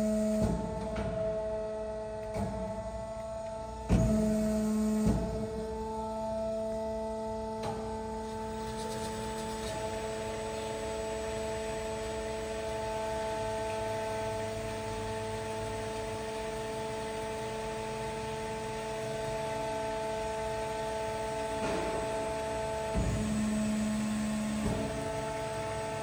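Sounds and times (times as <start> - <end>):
band saw humming: 0.0 - 26.0.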